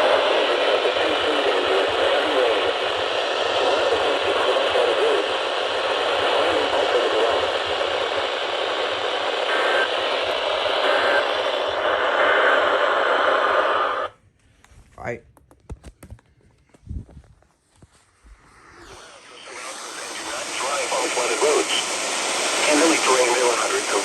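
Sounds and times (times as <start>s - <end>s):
radio static hiss and crackle: 0.0s - 14.2s, 17.8s - 24.0s.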